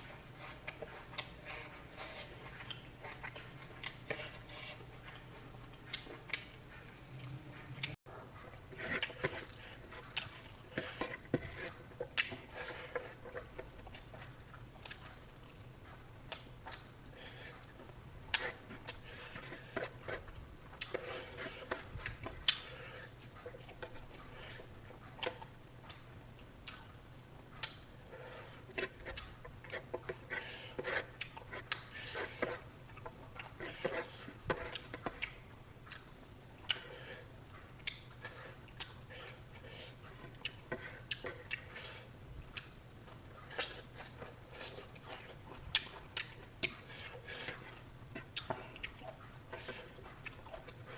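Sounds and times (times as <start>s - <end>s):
chewing: 0.0s - 50.9s.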